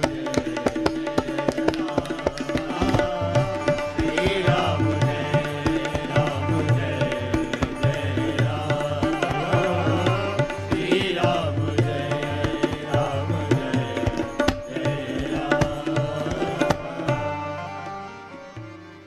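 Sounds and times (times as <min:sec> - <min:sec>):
tabla rhythm: 0:00.0 - 0:19.0.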